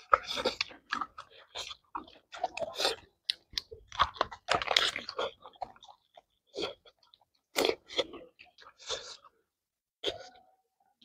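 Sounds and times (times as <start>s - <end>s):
chewing and crunching: 0.0s - 9.4s.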